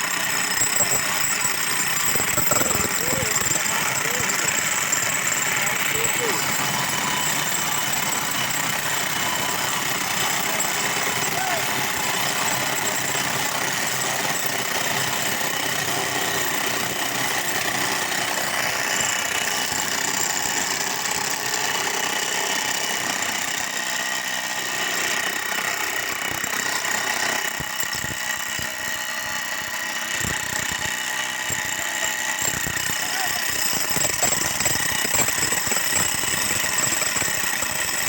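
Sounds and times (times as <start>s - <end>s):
construction machinery whine and drone: 0.0s - 38.0s.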